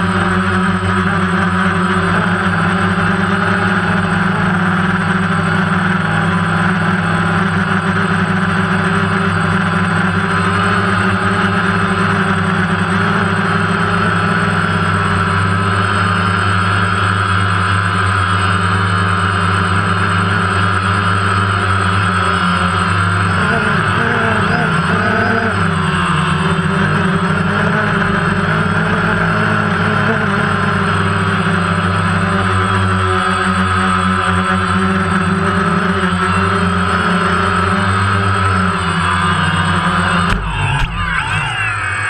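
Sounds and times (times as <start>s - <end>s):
drone motors and propellers: 0.0s - 42.0s.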